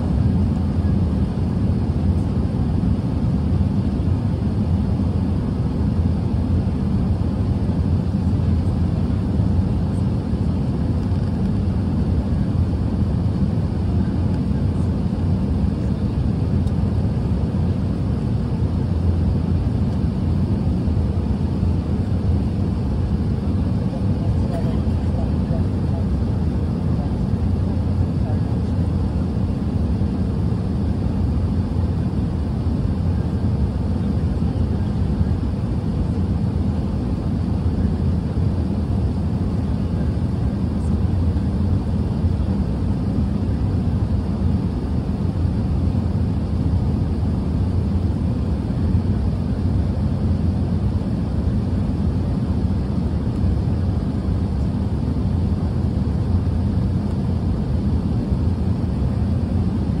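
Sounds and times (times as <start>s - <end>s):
airliner cabin roar: 0.0s - 60.0s.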